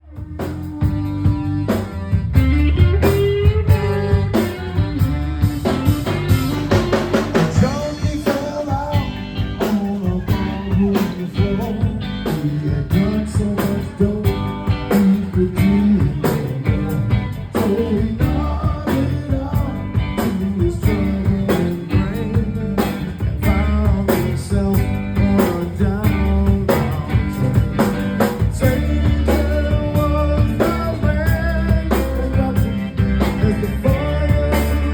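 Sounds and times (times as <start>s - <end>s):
bass: 0.0s - 34.9s
drum kit: 0.0s - 34.9s
electric guitar: 0.0s - 34.9s.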